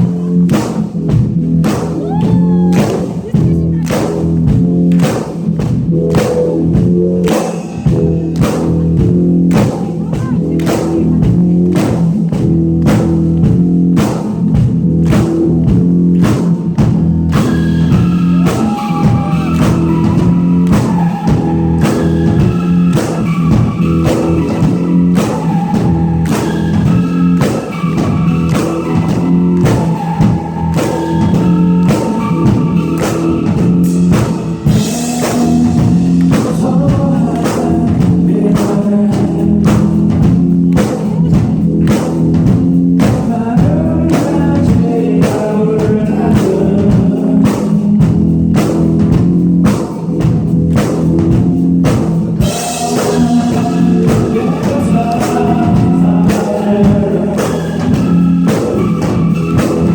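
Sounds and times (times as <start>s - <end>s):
drum kit beating: 0.0s - 59.9s
rock band playing live: 0.0s - 59.9s.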